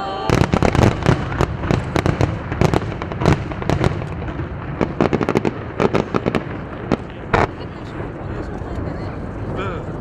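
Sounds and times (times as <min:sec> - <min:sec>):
fireworks crackling and popping: 0:00.0 - 0:10.0
steady low rumble: 0:00.3 - 0:10.0.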